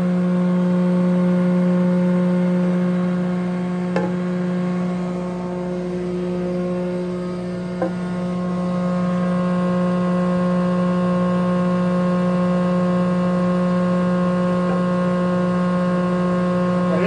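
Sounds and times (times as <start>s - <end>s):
planer motor humming: 0.0s - 17.0s.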